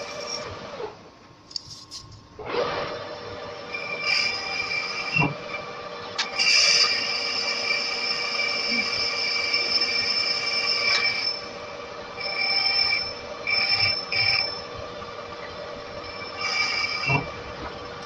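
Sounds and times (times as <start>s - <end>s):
lathe tool cutting metal whine: 0.0s - 0.9s, 2.5s - 18.0s
lathe running hum: 0.0s - 18.0s.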